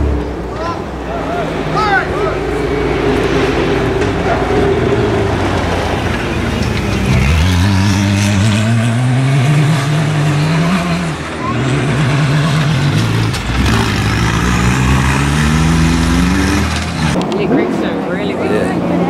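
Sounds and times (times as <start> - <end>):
buggy engine accelerating hard: 0.0 - 19.0.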